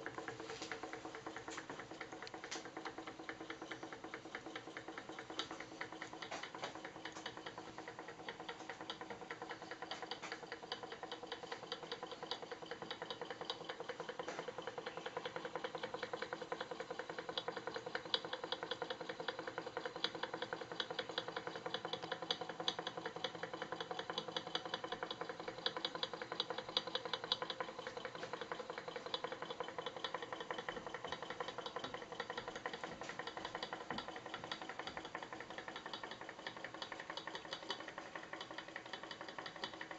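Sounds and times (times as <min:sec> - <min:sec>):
model engine mechanical ticking: 0:00.0 - 0:39.9.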